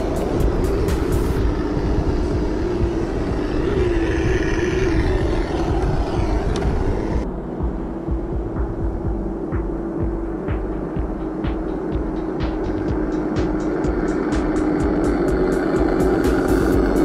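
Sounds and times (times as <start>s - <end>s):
continuous low rumble: 0.0s - 17.0s
electric motor and gears whining: 0.0s - 17.0s.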